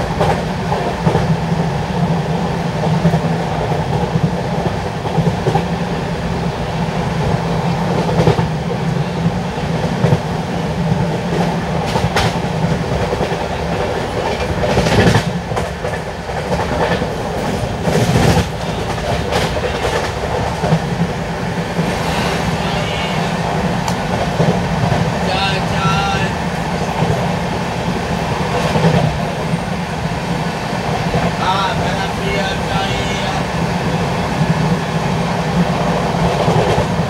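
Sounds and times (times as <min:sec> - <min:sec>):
wheels rumbling on rail: 0:00.0 - 0:37.0.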